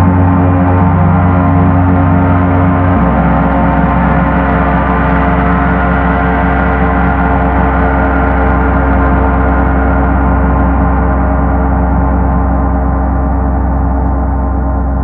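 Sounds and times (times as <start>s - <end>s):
gong deep sustained rumble: 0.0s - 15.0s.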